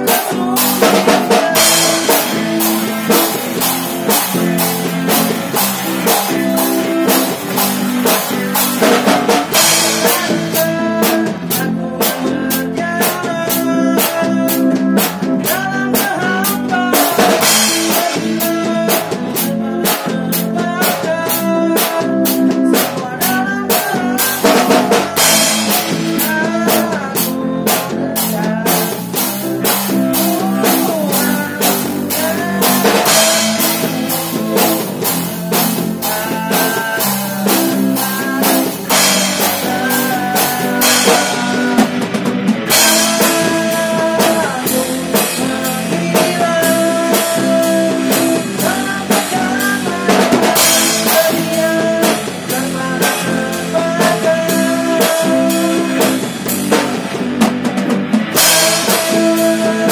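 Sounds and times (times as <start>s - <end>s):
acoustic guitars strumming: 0.0s - 59.9s
drum kit steady beat: 0.0s - 59.9s.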